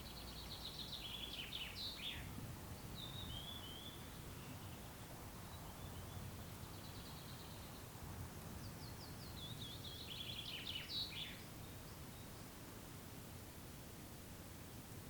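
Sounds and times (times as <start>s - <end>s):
songbird singing: 0.0s - 12.7s.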